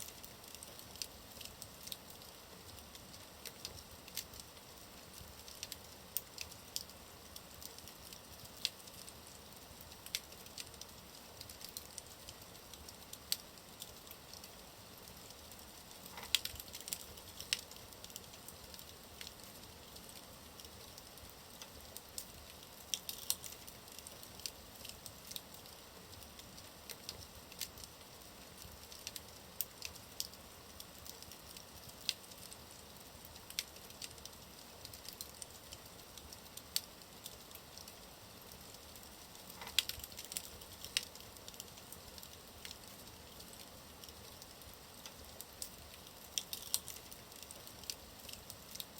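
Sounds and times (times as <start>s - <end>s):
faint fire hiss: 0.0s - 48.9s
wood fire crackling and popping: 0.0s - 48.9s.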